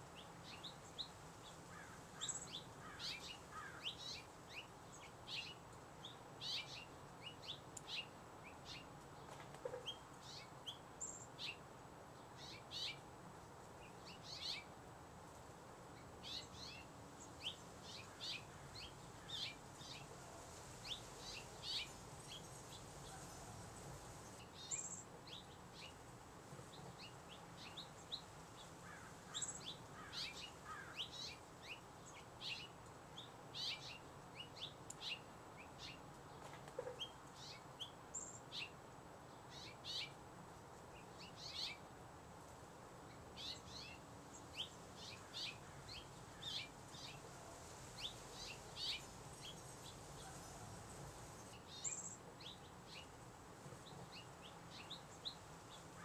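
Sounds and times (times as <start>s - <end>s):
low steady hiss: 0.0s - 56.0s.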